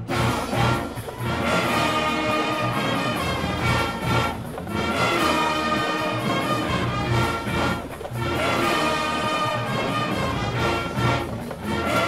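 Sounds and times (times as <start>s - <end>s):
bass and drums: 0.0s - 12.0s
marching band brass playing: 0.0s - 12.0s.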